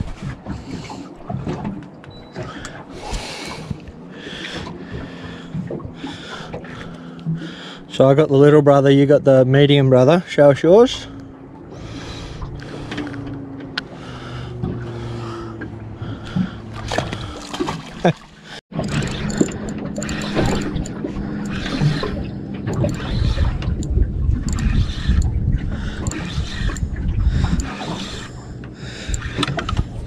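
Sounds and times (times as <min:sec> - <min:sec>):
boat engine idling: 0:00.0 - 0:30.0
water noise: 0:00.0 - 0:30.0
wind: 0:00.0 - 0:30.0.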